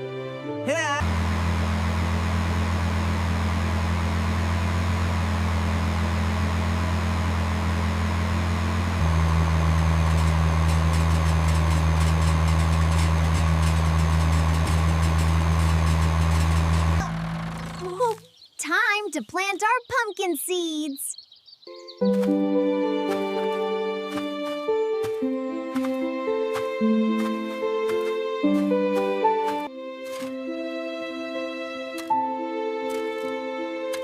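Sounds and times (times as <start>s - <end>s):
tractor engine humming: 0.7s - 19.8s, 22.0s - 34.0s.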